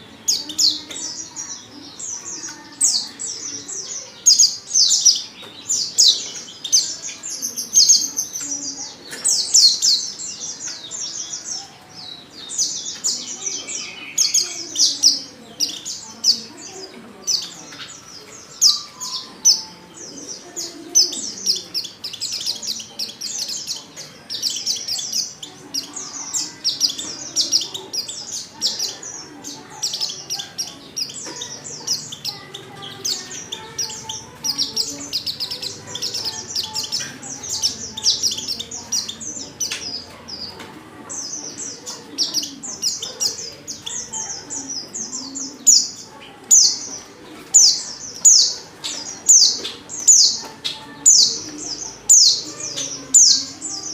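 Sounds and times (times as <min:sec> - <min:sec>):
bird twittering chirps: 0:00.0 - 0:53.9.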